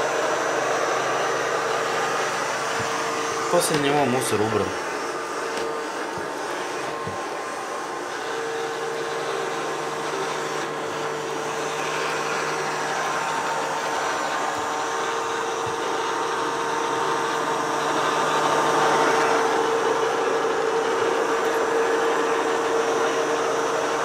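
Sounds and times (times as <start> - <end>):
robot vacuum cleaner motor whine: 0.0 - 24.0.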